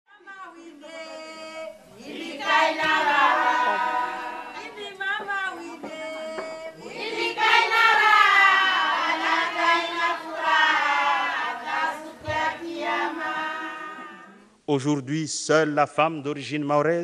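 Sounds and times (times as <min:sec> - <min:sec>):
several voices singing: 0:00.6 - 0:14.5.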